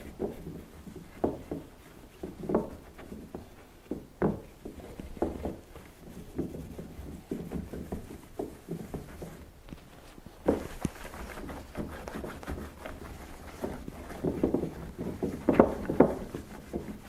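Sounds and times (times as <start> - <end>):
cloth rubbing wax on marble: 0.0 - 17.0.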